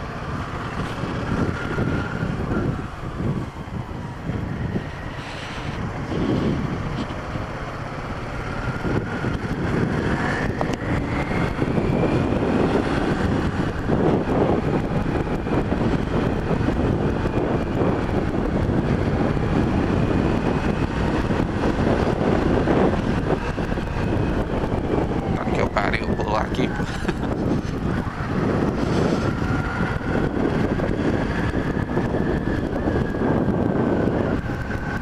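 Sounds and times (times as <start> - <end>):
wind noise on microphone: 0.0 - 35.0.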